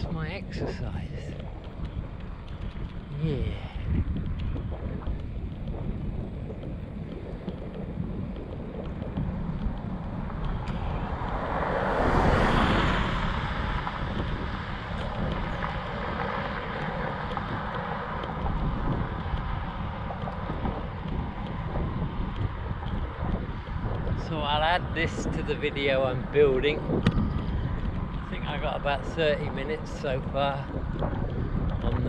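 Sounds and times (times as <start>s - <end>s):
rushing wind swell: 0.0s - 32.0s
wind buffeting microphone: 0.0s - 32.0s.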